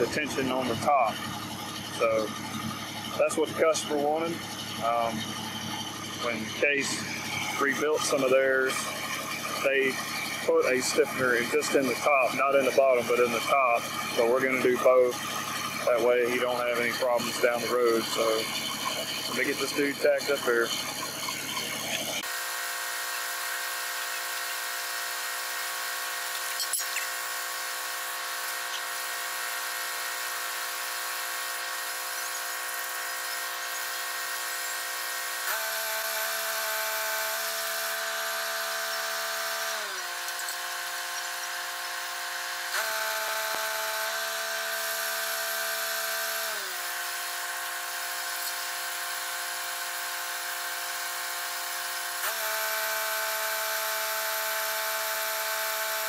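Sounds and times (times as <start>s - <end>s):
machine droning: 0.0s - 56.0s.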